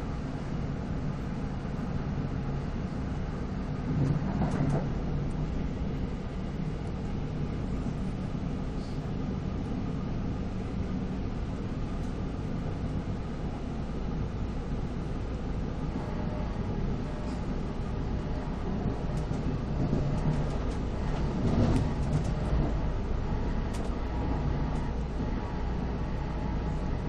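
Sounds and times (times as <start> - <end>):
moving train rumble: 0.0 - 27.0.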